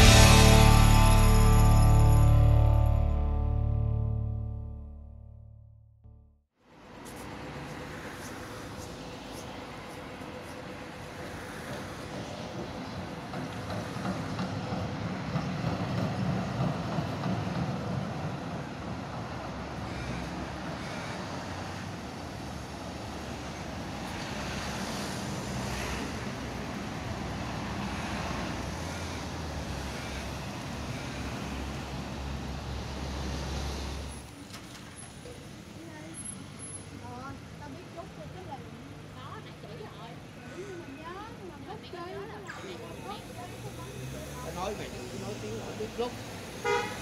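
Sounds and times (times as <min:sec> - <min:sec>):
cars passing: 0:00.0 - 0:04.8, 0:06.7 - 0:47.0
tram passing: 0:00.0 - 0:05.2, 0:06.7 - 0:47.0.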